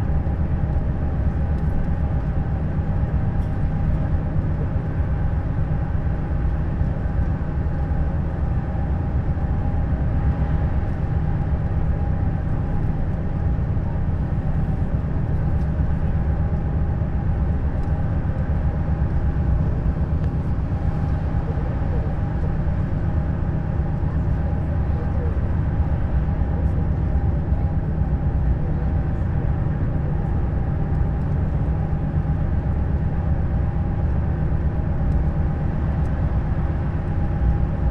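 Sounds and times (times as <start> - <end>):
coach engine drone: 0.0 - 37.9.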